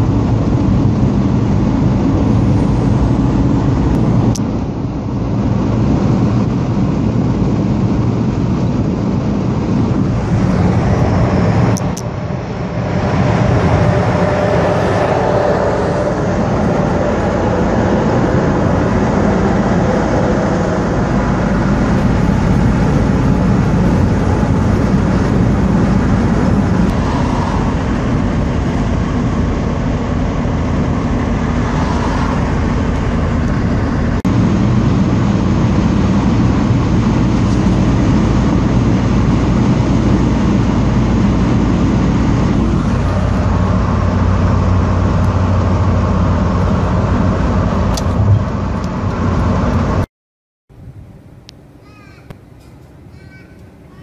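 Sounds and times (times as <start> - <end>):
heavy trucks passing: 0.0 - 50.1
low engine hum: 0.0 - 50.1.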